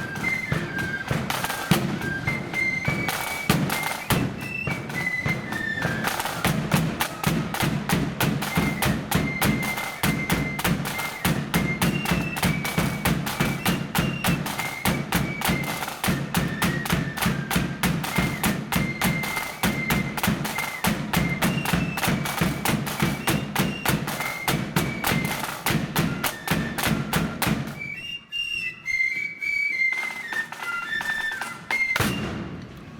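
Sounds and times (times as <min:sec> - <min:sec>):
rapid dense drumming: 0:00.0 - 0:27.8
flutes playing a march: 0:00.0 - 0:32.9.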